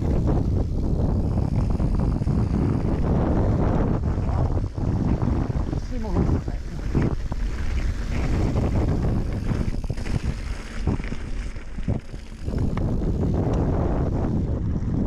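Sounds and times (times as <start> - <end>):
bike knocking and rattling: 0.0 - 15.0
bike tyre rumble on dirt: 0.0 - 15.0
wind buffeting microphone: 0.0 - 15.0.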